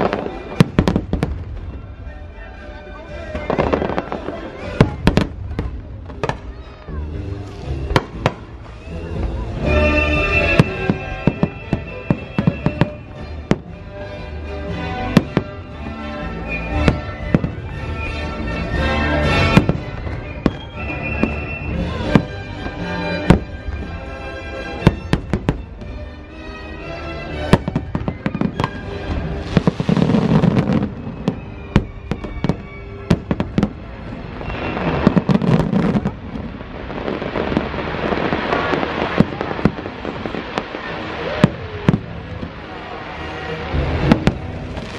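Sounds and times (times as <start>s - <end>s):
fireworks show music: 0.0s - 44.9s.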